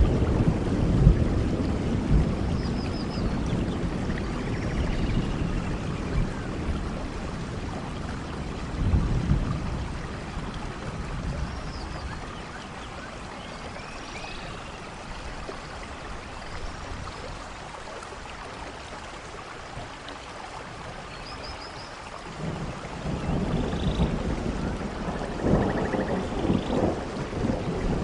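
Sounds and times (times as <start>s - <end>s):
soft rainfall: 0.0s - 28.0s.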